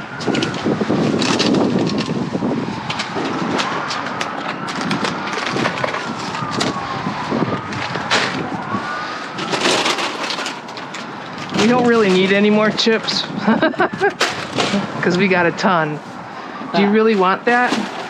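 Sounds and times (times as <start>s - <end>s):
items clattering and rustling in dumpster: 0.0s - 18.0s.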